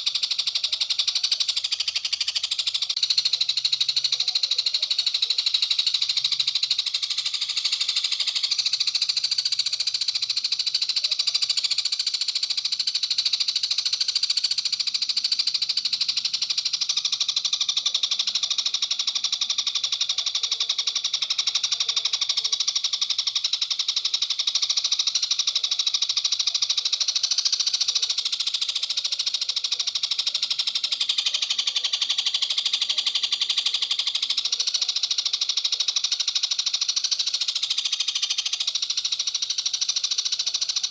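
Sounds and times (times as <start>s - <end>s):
high-pitched rapid bird trill: 0.0s - 40.9s.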